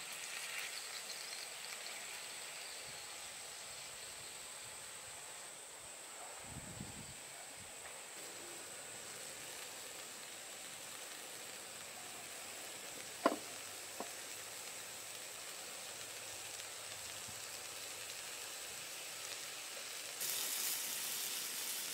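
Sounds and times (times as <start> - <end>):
food sizzling in oil: 0.0 - 5.5, 8.2 - 21.9.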